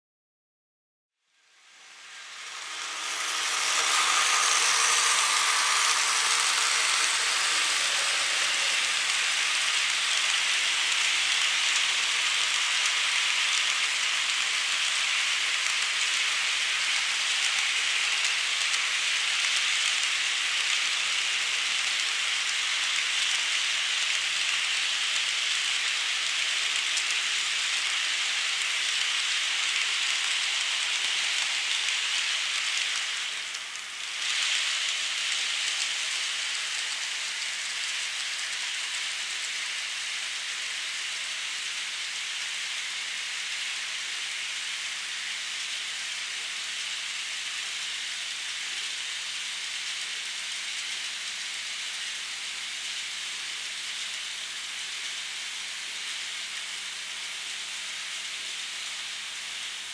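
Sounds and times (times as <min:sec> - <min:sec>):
model train wheels rattling on rails: 0:01.4 - 0:59.9.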